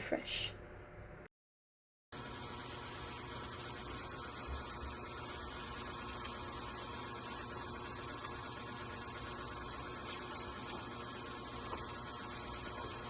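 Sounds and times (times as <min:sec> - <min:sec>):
steady low hum: 0:02.2 - 0:13.0.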